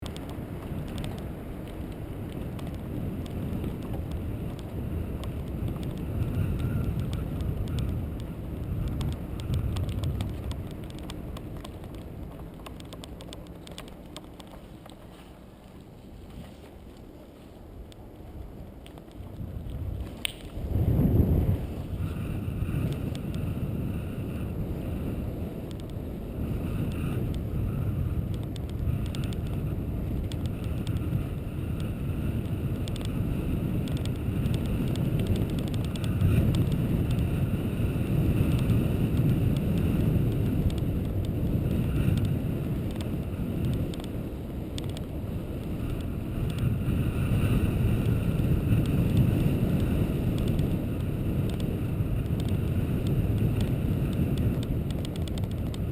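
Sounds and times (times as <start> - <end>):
road noise: 0.0 - 55.9
wind on microphone: 0.0 - 55.9.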